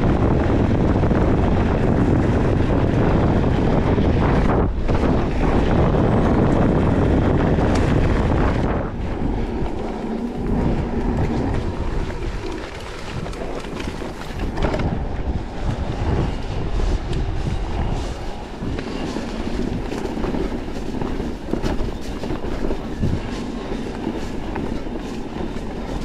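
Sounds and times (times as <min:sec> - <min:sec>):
bike rattling over bumps: 0:00.0 - 0:26.0
wind rumbling on microphone: 0:00.0 - 0:26.0.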